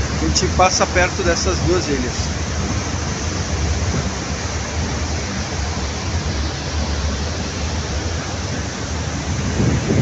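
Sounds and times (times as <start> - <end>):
low rumble of moving ship: 0.0 - 10.0
wind rushing across microphone: 0.0 - 10.0.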